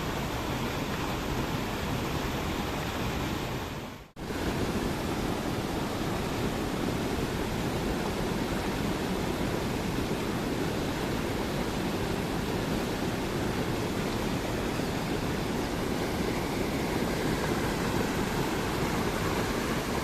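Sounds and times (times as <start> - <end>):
river water flowing over rocks: 0.0 - 20.0.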